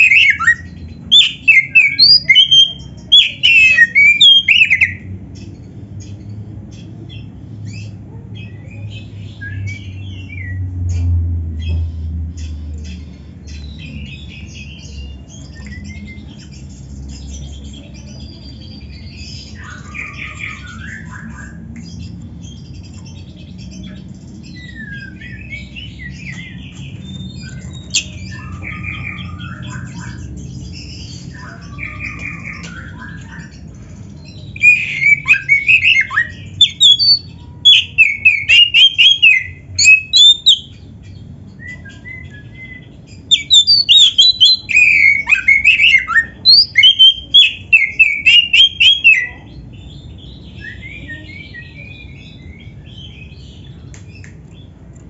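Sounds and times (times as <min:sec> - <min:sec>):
magpie-robin singing: 0:00.0 - 0:10.7, 0:11.6 - 0:54.7.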